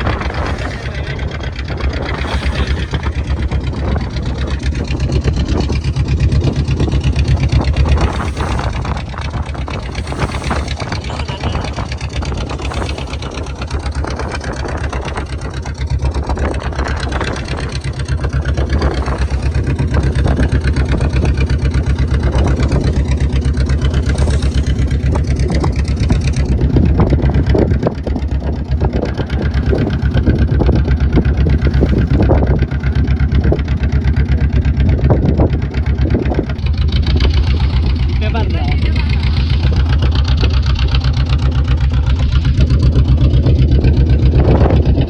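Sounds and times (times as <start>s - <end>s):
motorboat engine running: 0.0s - 45.0s.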